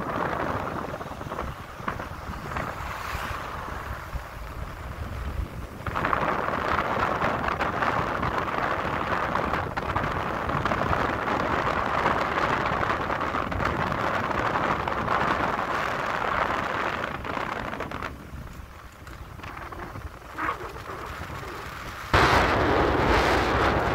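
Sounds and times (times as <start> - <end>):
wind and road noise: 0.0 - 23.9.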